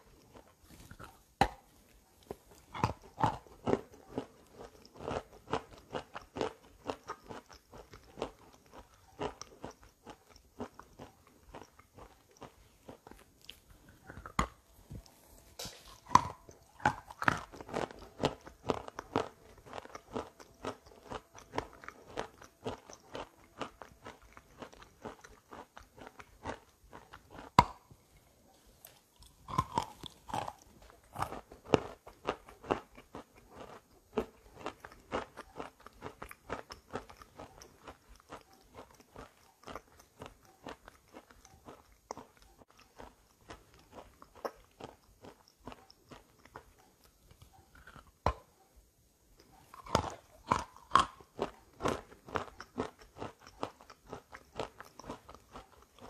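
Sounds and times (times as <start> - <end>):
crunchy chewing: 0.0 - 48.7, 49.3 - 56.0.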